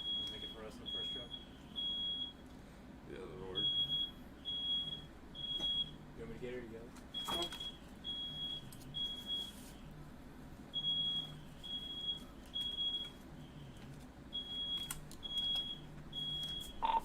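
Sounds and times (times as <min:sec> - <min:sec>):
smoke alarm beeping: 0:00.0 - 0:02.4, 0:03.5 - 0:06.0, 0:07.1 - 0:09.7, 0:10.7 - 0:17.0.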